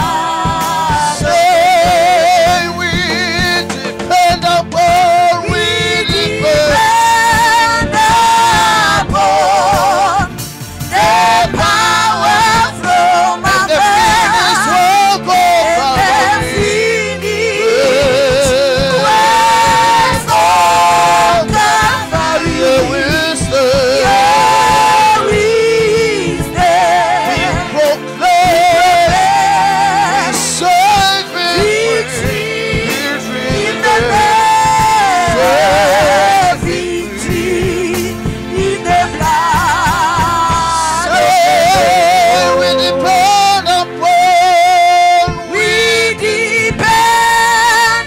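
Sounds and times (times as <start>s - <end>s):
instrumental backing: 0.0s - 48.0s
voices singing gospel song: 0.0s - 48.0s.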